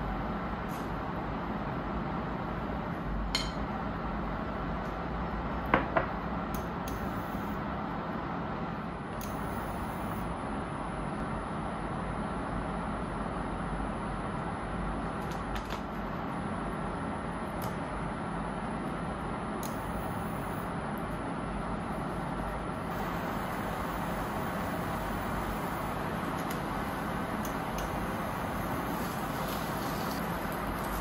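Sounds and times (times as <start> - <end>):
background hum and hiss: 0.0 - 31.0.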